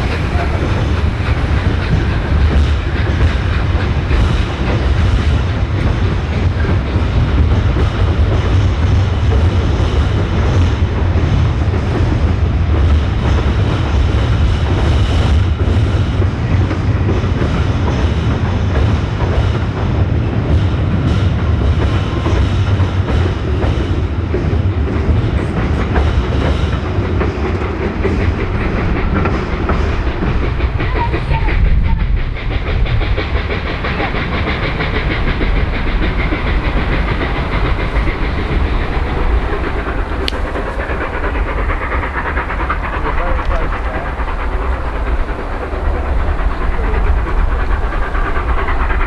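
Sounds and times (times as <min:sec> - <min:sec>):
train wheels clattering over rail joints: 0:00.0 - 0:49.0.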